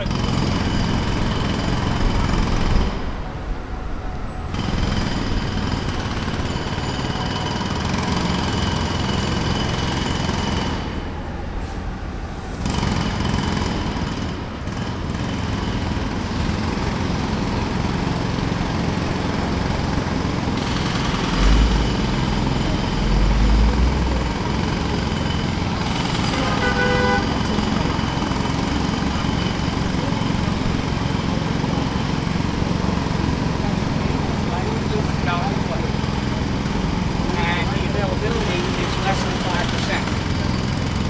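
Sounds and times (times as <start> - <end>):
jackhammer hammering: 0.0 - 3.2, 4.5 - 11.1, 12.6 - 41.0.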